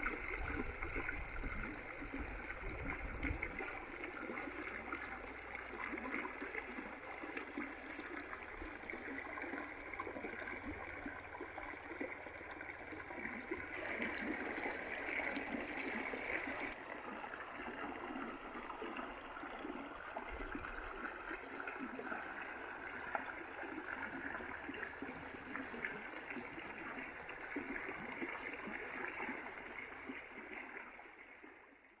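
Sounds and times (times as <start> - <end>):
shallow water rushing over rocks: 0.0 - 30.4.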